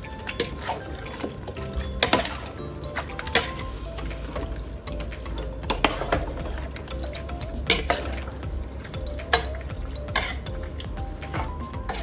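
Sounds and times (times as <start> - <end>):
background music: 0.0 - 12.0
ladle stirring thick stew: 0.0 - 12.0.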